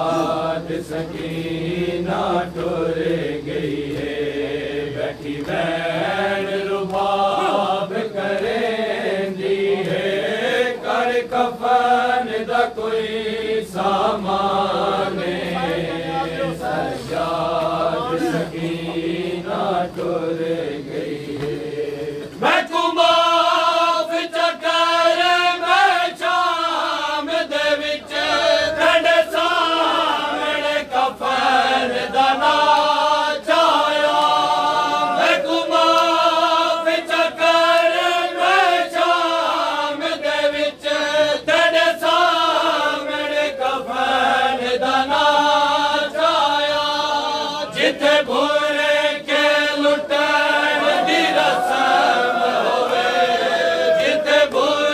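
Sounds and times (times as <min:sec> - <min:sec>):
men chanting in unison: 0:00.0 - 0:54.9.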